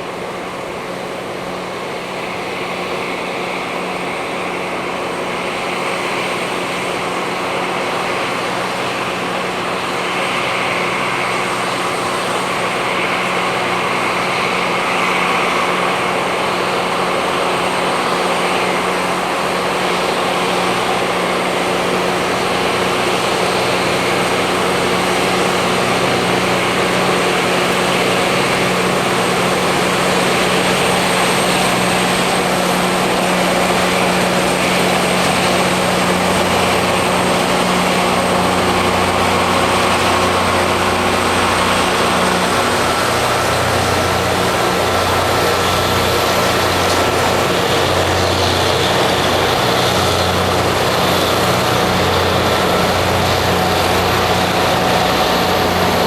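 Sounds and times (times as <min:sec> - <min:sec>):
diesel engines droning: 0:00.0 - 0:56.0
grinding stones on rail hissing: 0:04.7 - 0:56.0.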